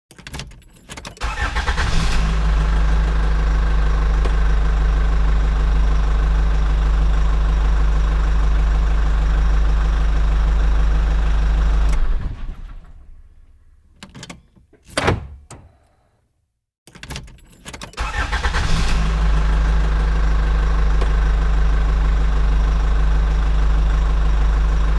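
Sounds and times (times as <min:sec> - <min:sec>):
truck engine starting and idling: 0:01.0 - 0:14.0, 0:17.4 - 0:24.9.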